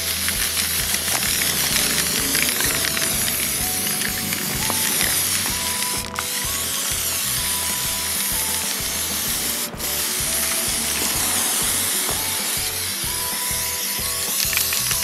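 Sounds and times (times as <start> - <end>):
background music with beat: 0.0 - 15.0
spray can hissing: 0.0 - 15.0.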